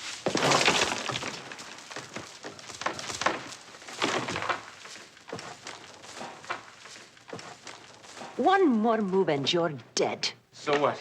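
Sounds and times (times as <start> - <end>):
rustling: 0.0 - 9.8.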